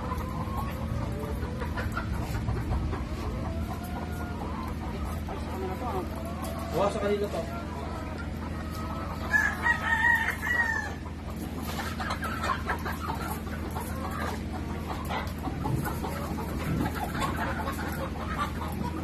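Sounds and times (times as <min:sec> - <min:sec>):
hens clucking and squawking: 0:00.0 - 0:19.0.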